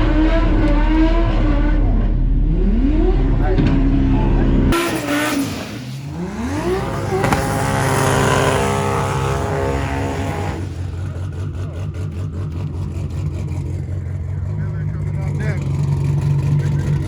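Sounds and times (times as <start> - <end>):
race car engine idling and revving: 0.0 - 17.0.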